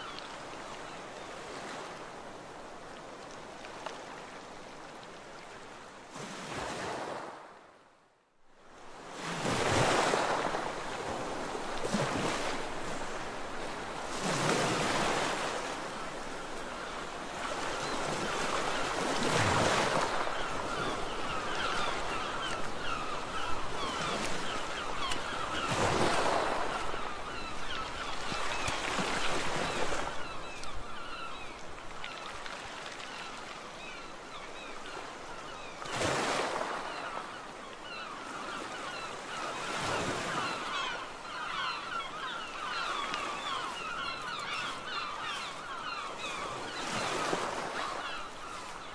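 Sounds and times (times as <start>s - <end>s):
waves breaking on a beach: 0.0s - 48.9s.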